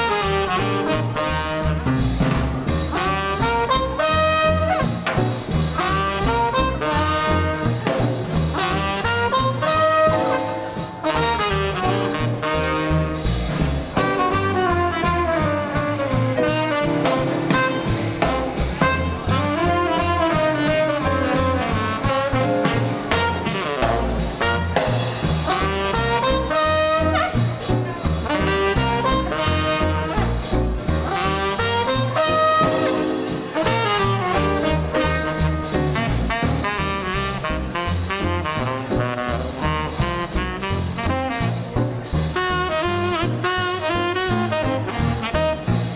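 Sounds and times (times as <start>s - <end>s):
swing band playing: 0.0s - 45.9s.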